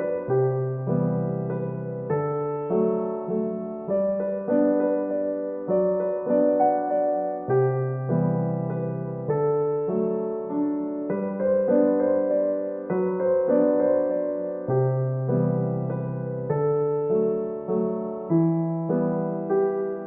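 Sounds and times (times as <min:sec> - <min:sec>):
soft piano chords: 0:00.0 - 0:20.0.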